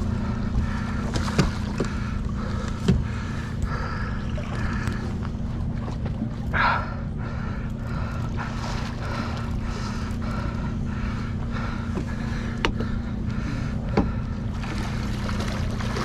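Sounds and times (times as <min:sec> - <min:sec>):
boat engine humming: 0:00.0 - 0:16.0
water noise: 0:00.0 - 0:16.0
wind: 0:00.0 - 0:16.0.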